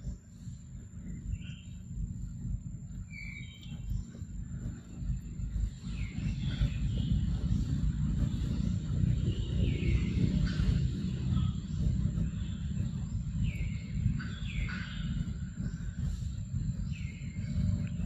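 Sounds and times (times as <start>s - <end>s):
birds whistling: 0.0s - 18.0s
low steady rumble: 0.0s - 18.0s.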